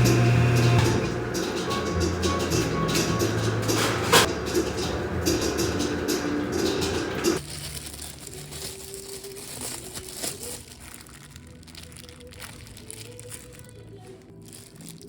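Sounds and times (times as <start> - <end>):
music: 0.0 - 15.0
crinkling and rustling: 0.2 - 15.0.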